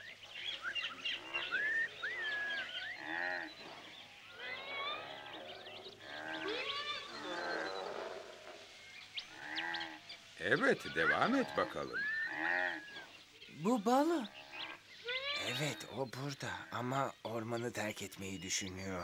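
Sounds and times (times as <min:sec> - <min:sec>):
birds chirping and trilling: 0:00.0 - 0:19.0
low animal calls: 0:00.6 - 0:16.8.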